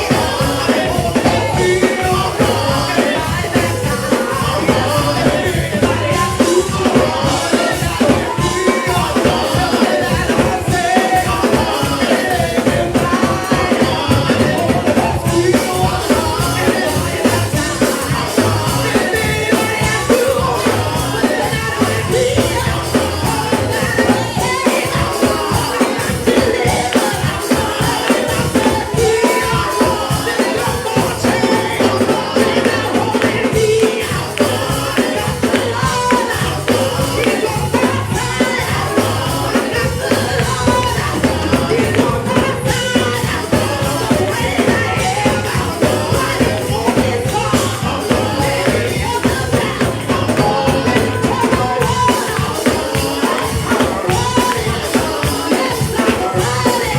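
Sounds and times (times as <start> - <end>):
drum kit playing fast beat: 0.0 - 56.9
voices singing: 0.0 - 56.9.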